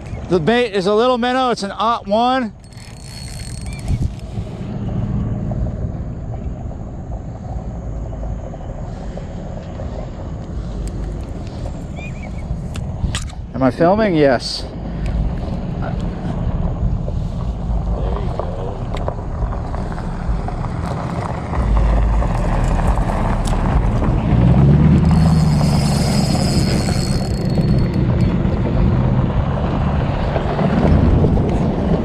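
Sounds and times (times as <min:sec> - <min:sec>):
passing vehicle: 0:00.0 - 0:32.0
wind buffeting microphone: 0:02.6 - 0:32.0.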